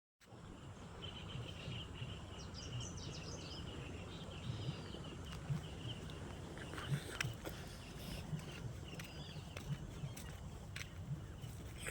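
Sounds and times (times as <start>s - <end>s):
low background rumble: 0.4s - 11.9s.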